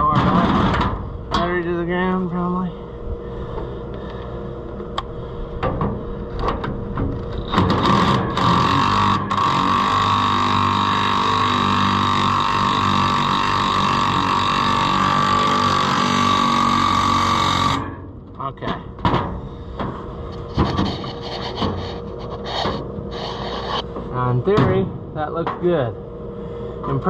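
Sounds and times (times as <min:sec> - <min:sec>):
motor humming and whining: 0:00.0 - 0:18.3, 0:19.4 - 0:24.9.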